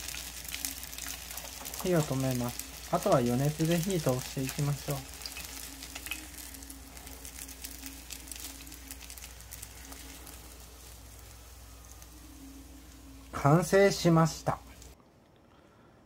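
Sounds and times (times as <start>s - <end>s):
batter frying in oil: 0.0s - 15.0s.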